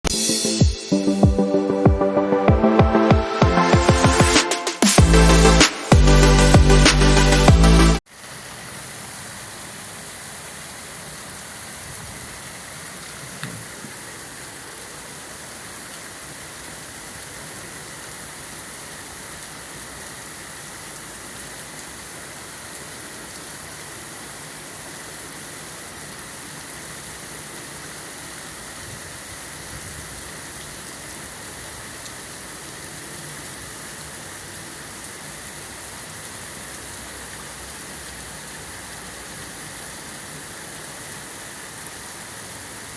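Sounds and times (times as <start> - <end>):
heavy rain: 3.0 - 42.9.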